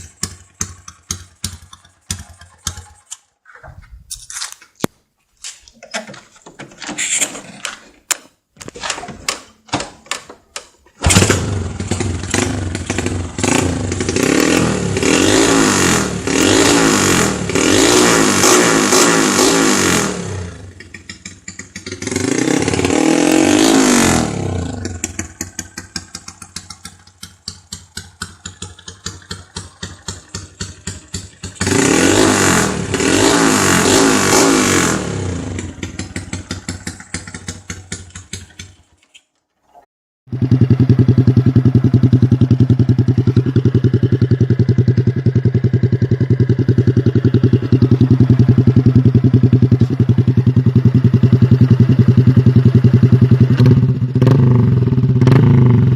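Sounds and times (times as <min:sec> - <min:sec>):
motorcycle engine revving: 0:00.0 - 0:03.2, 0:11.0 - 0:39.0, 0:40.3 - 0:55.9.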